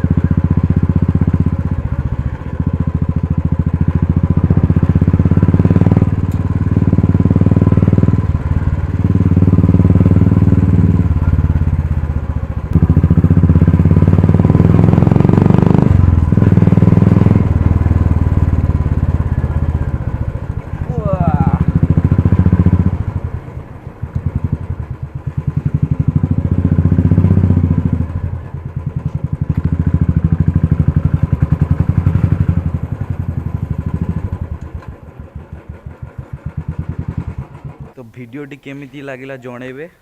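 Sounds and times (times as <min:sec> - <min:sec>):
motorcycle engine deep exhaust: 0:00.0 - 0:38.7.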